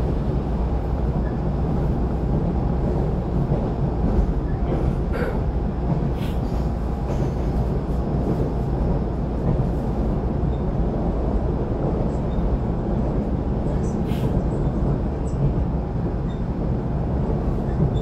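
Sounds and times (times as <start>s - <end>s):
train rumbling at speed: 0.0s - 18.0s.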